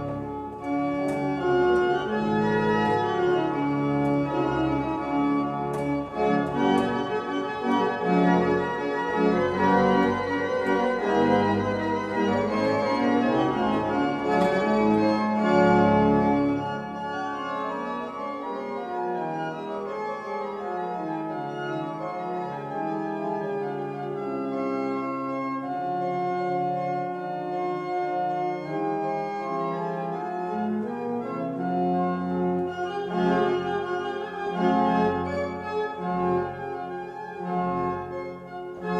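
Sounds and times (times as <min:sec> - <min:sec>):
church organ playing: 0:00.0 - 0:38.9.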